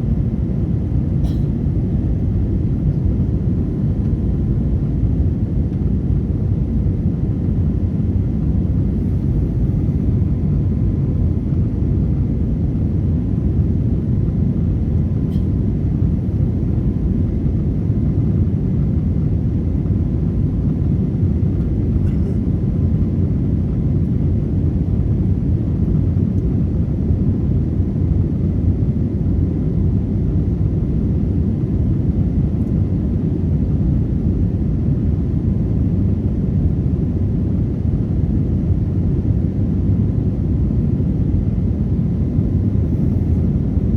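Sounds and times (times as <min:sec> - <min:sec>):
airplane engines rumbling: 0:00.0 - 0:43.9.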